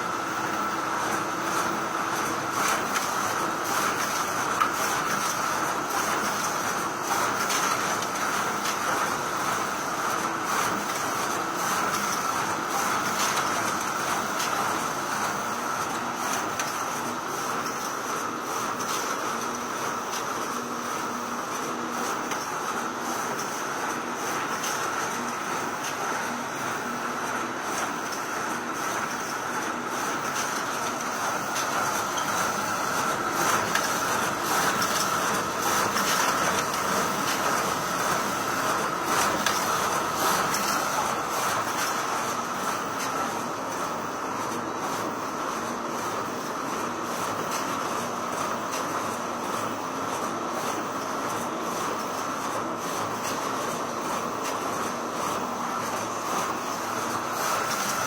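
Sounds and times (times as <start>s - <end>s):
photocopier whirring: 0.0s - 58.0s.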